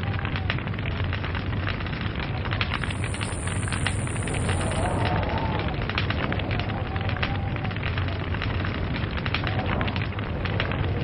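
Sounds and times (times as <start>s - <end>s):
log fire crackling: 0.0s - 11.0s
low rumble of burning: 0.0s - 11.0s.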